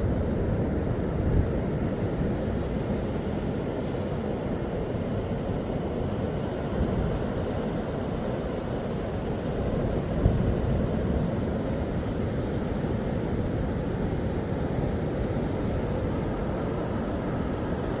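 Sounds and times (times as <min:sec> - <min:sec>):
sea surf at shore: 0:00.0 - 0:18.0.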